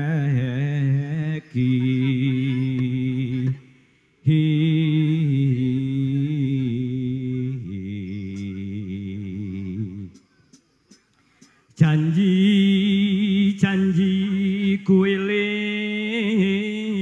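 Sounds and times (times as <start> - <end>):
person chanting a slow song: 0.0 - 17.0.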